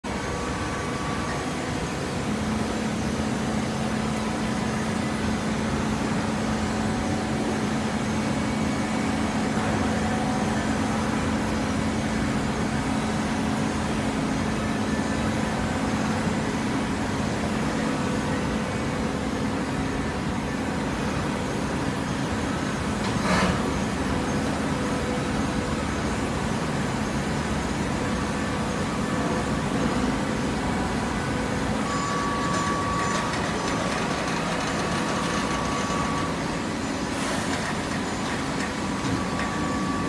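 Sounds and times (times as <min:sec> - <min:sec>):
baler mechanical drone: 0:00.0 - 0:40.0.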